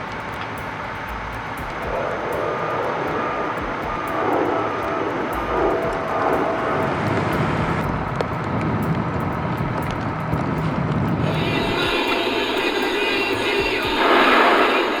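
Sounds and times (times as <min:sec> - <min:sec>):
heavy vehicle engine rumble: 0:00.0 - 0:15.0
road and traffic noise: 0:00.0 - 0:15.0.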